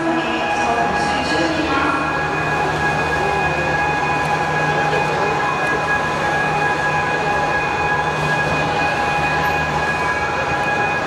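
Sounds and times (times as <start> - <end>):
electric motor hum and whine: 0.0 - 11.0.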